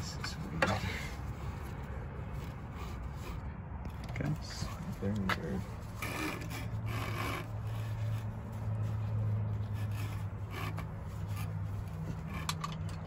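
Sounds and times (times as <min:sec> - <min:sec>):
seat belt webbing rustling: 0:00.2 - 0:13.0.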